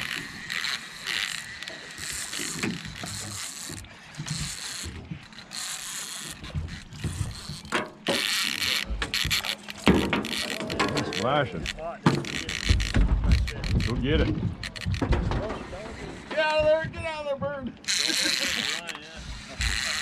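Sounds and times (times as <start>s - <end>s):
fishing reel gears ratcheting: 0.0s - 15.1s, 17.8s - 20.0s.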